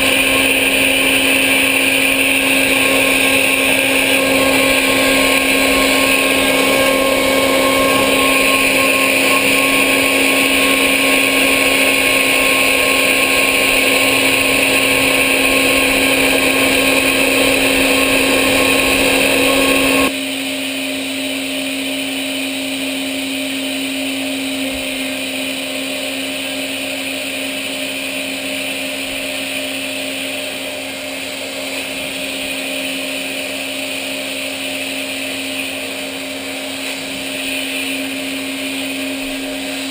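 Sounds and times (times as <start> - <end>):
machine tool whine: 0.0 - 39.9.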